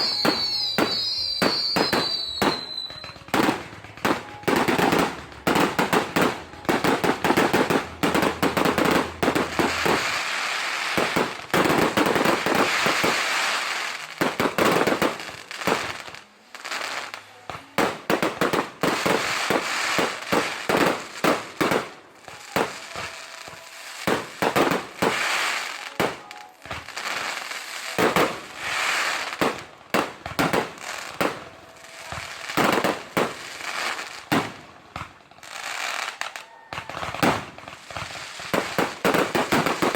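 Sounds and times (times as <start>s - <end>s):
firework crackling: 0.0s - 39.9s.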